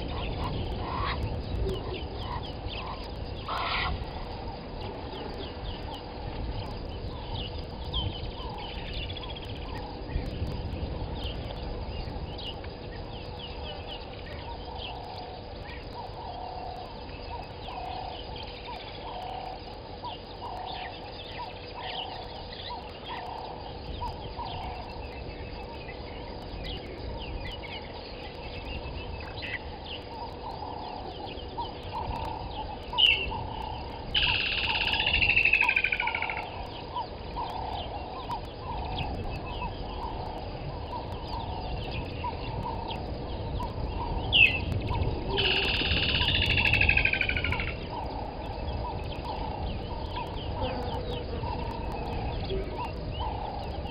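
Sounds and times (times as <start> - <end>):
bird chirps: 5.0 - 53.9.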